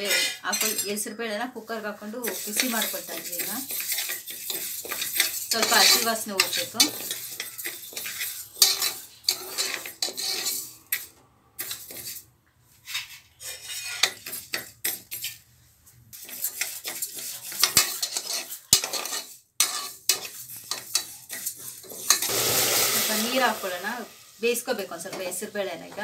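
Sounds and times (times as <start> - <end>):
metal ladle scraping pot: 0.0 - 1.0, 2.2 - 12.2, 12.8 - 15.4, 16.1 - 23.8.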